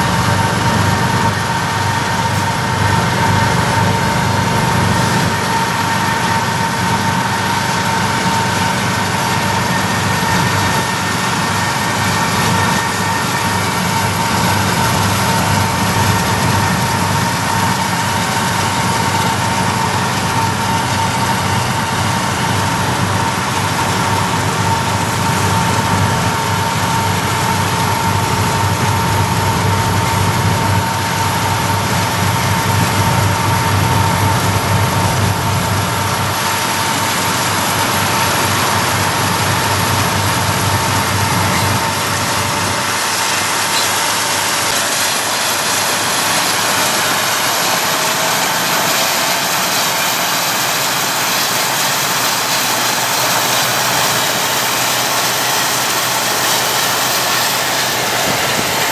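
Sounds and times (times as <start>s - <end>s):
diesel locomotive engine drone: 0.0s - 58.9s
locomotive whine: 0.0s - 58.9s.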